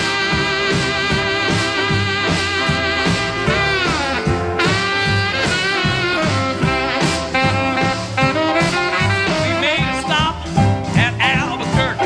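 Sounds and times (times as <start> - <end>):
swing music: 0.0 - 12.0.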